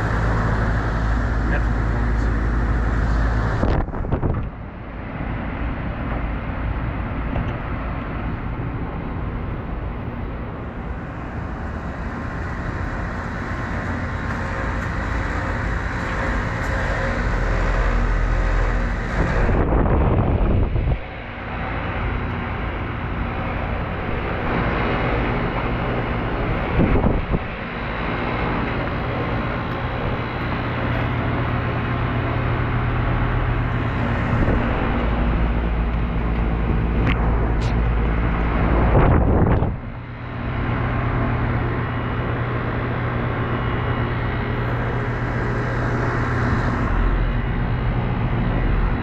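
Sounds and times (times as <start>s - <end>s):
compressor hum: 0.0s - 49.0s
condenser fans rushing: 0.0s - 49.0s.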